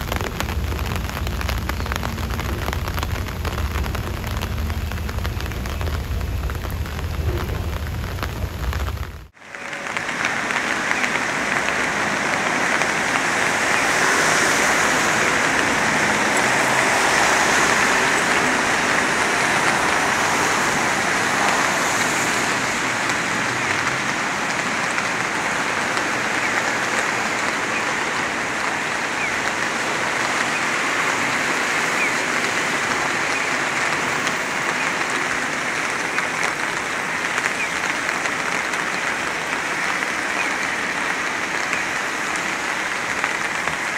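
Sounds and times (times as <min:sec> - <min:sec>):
raindrop ticks: 0:00.0 - 0:43.9
steady rain hiss: 0:00.0 - 0:43.9.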